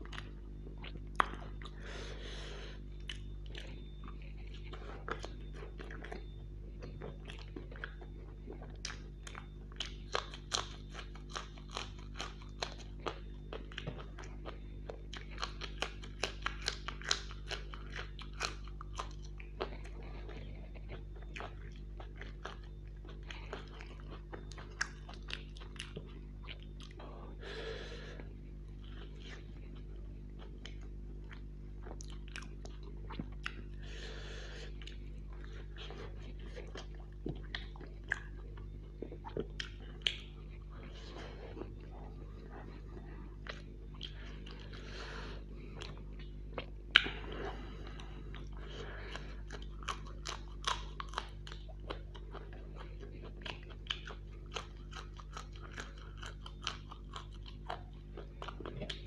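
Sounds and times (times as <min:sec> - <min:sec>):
crunchy chewing: 0:00.0 - 0:59.0
low hum: 0:00.0 - 0:59.0.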